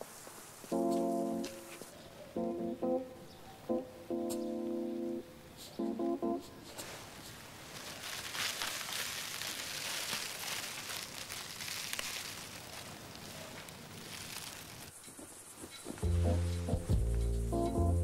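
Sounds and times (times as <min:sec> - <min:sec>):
soft rustling hiss: 0:00.0 - 0:02.2, 0:05.4 - 0:17.9.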